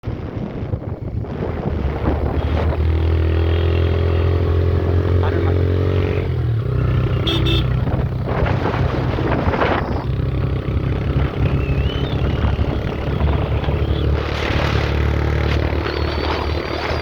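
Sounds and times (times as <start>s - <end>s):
vehicle engine running: 0.1s - 17.0s.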